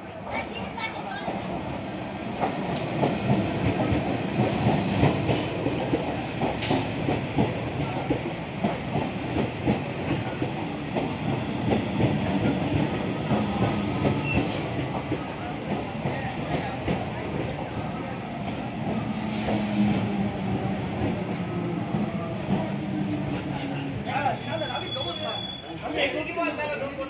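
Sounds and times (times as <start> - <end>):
train rumble: 0.0 - 25.6.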